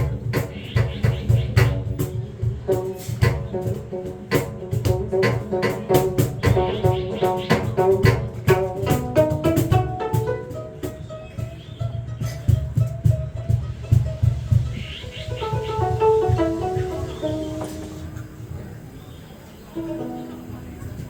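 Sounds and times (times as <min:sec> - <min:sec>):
live band music: 0:00.0 - 0:18.6
drum hits: 0:00.0 - 0:18.8.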